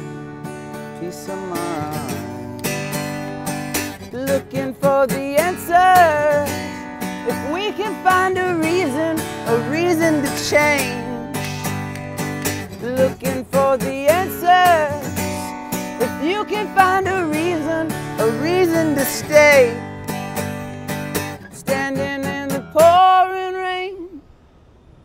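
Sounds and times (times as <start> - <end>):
wordless singing: 0.0 - 20.1, 21.4 - 24.2
acoustic guitar strumming: 0.0 - 24.0.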